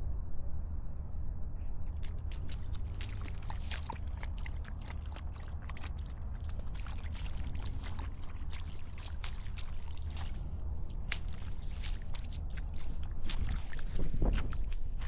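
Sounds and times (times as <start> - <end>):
wind rumble on microphone: 0.0 - 15.0
footsteps crunching on path: 1.9 - 15.0.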